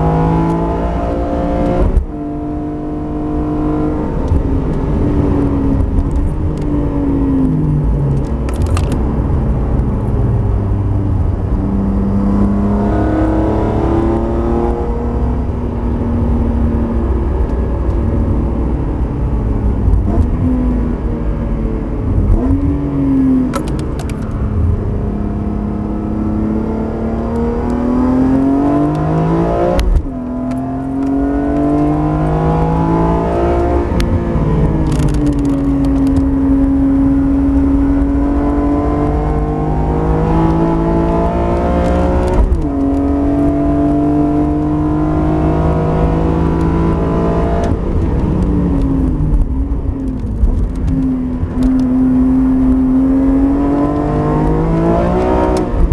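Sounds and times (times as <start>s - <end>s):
car engine revving in cabin: 0.0s - 55.9s.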